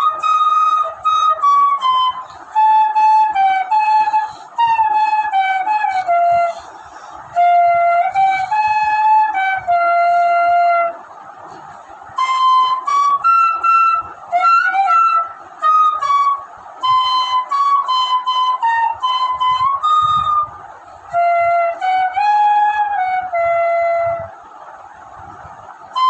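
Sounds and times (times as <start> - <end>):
bamboo flute playing slow melody: 0.0 - 26.0.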